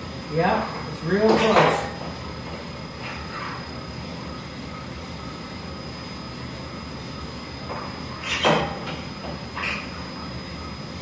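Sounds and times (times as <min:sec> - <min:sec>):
coffee roaster drum rumble: 0:00.0 - 0:11.0.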